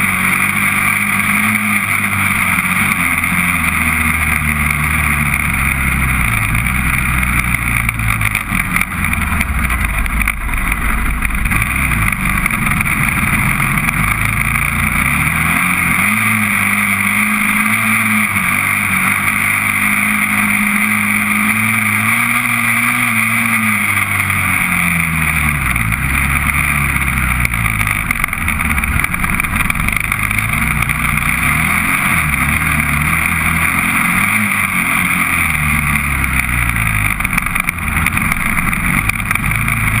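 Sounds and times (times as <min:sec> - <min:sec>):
quad engine revving: 0:00.0 - 0:40.0.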